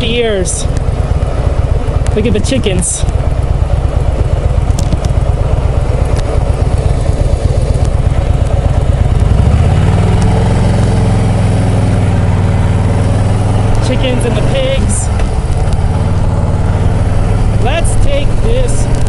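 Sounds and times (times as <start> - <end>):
motorcycle engine loping: 0.0 - 19.0.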